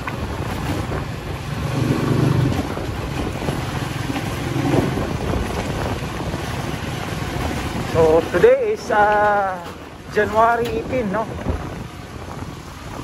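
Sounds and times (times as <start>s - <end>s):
low engine hum: 0.0s - 13.0s
wind buffeting microphone: 0.0s - 13.0s.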